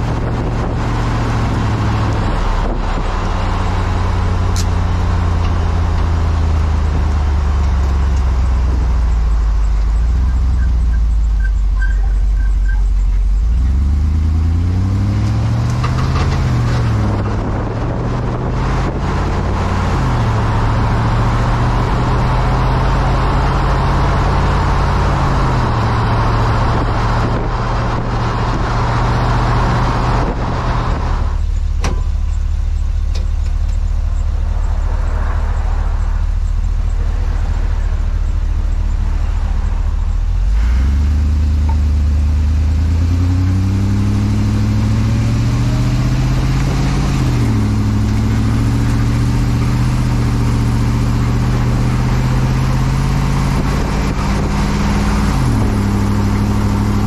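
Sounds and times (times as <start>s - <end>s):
truck engine shifting gears: 0.0s - 57.0s
tyre and road noise: 0.0s - 57.0s.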